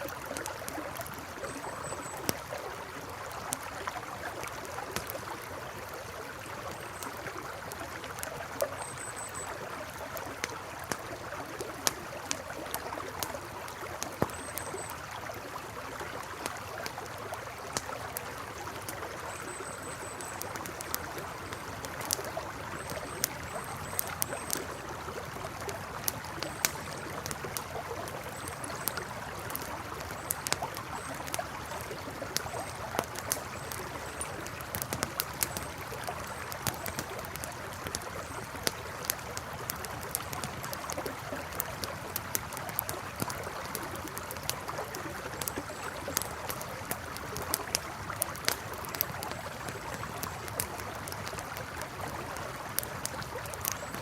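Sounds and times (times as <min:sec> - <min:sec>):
campfire crackling and popping: 0:00.0 - 0:54.0
river flowing: 0:00.0 - 0:54.0.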